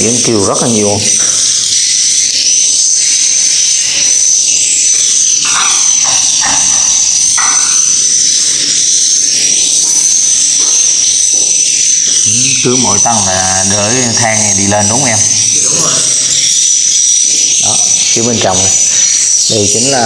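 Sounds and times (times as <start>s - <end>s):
swiftlets chirping chorus: 0.0s - 20.0s.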